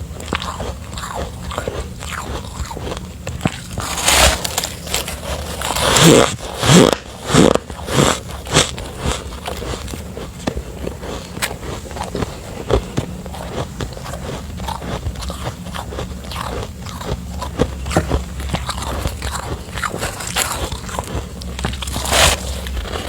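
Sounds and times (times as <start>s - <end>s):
biting and chewing ice: 0.0s - 23.0s.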